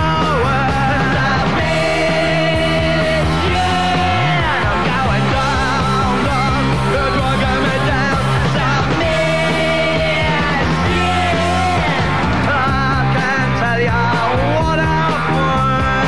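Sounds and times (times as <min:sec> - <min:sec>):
person singing: 0:00.0 - 0:16.0
punk rock band: 0:00.0 - 0:16.0.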